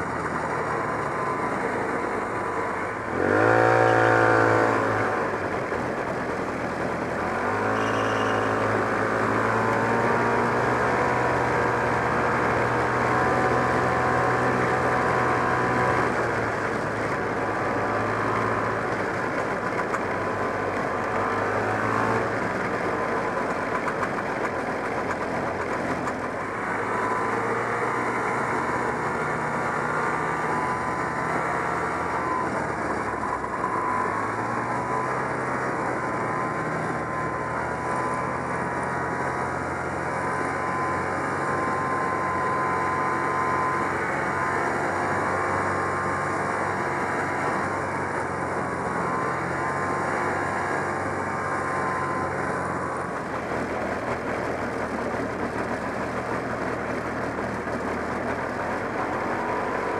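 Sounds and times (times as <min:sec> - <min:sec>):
snowmobile two-stroke engine revving: 0:00.0 - 0:59.9.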